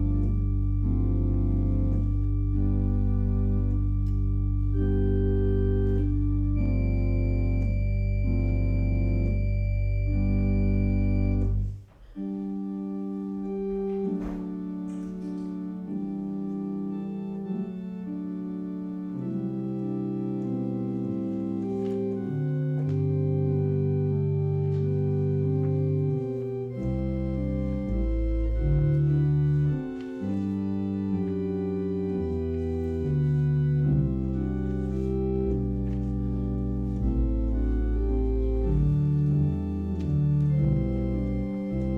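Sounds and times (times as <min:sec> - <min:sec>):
organ playing slow chords: 0:00.0 - 0:41.9.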